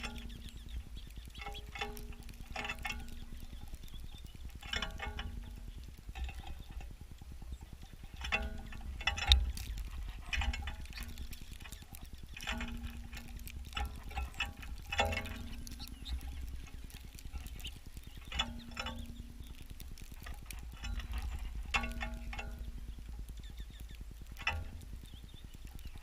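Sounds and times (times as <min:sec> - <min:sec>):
birds tapping on feeder: 0:00.0 - 0:26.0
steady low rumble: 0:00.0 - 0:26.0.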